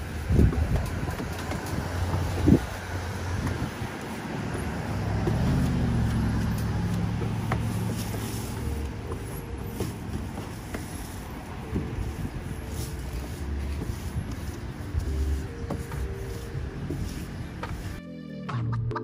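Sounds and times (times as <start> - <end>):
vehicle engine hum: 0.0 - 18.0
road traffic: 0.0 - 18.4.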